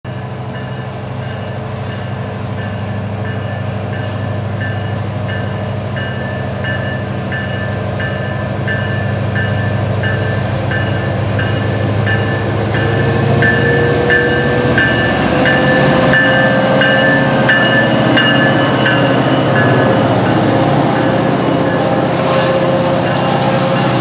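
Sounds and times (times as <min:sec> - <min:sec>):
diesel locomotive engine drone: 0:00.1 - 0:24.0
locomotive bell ringing: 0:00.1 - 0:24.0.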